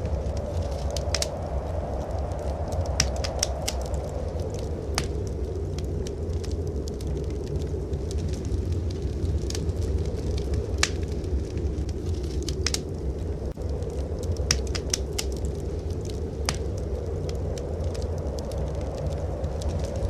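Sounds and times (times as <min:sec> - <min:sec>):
blizzard wind rumble: 0:00.0 - 0:20.0
wood fire crackling and popping: 0:00.0 - 0:20.0.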